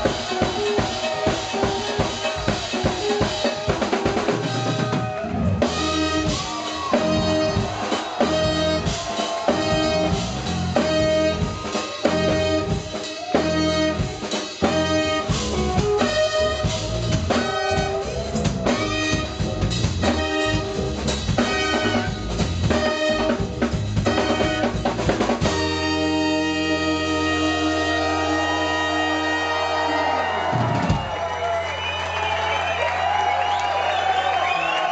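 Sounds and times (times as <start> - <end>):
jazz-funk band playing: 0.0 - 31.7
drum kit driving rhythm: 0.0 - 34.9.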